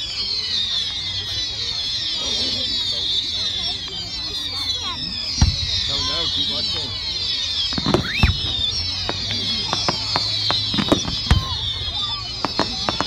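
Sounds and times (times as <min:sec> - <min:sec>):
rising firework whistle: 0:00.0 - 0:13.0
fireworks bangs and crackling pops: 0:00.1 - 0:13.0.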